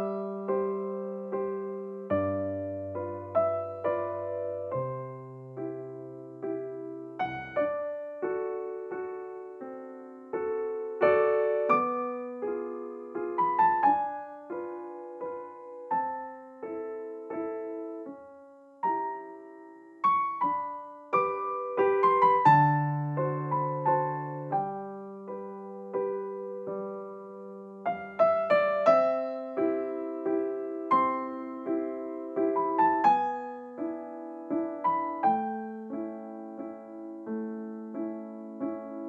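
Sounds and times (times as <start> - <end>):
soft piano music: 0.0 - 39.0.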